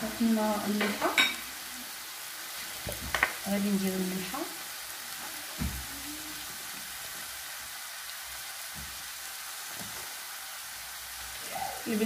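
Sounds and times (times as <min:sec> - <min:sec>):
meat and onions sizzling in pan: 0:00.0 - 0:12.0.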